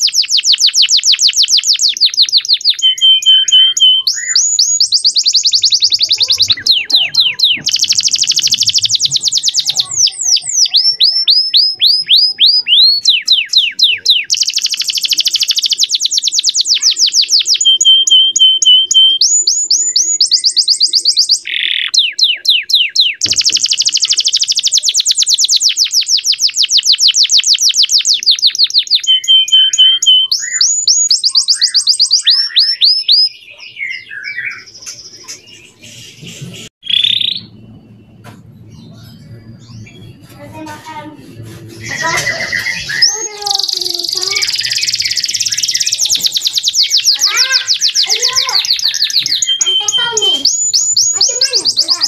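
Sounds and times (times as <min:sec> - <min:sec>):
canary singing trills: 0:00.0 - 0:52.0
faint bird chirps: 0:00.0 - 0:52.0.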